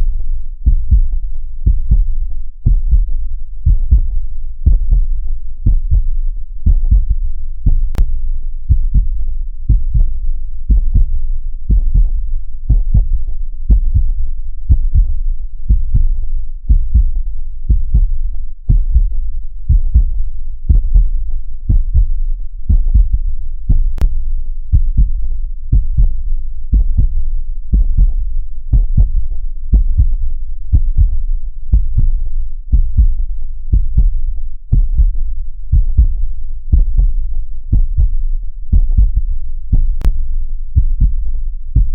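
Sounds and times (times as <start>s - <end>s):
muffled heartbeat: 0.0s - 41.9s.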